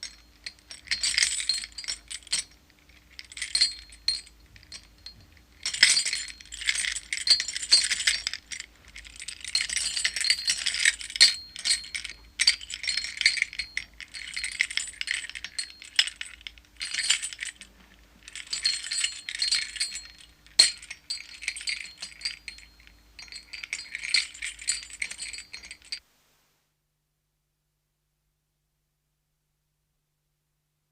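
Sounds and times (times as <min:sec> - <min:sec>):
metal chains rattling: 0:00.0 - 0:26.0.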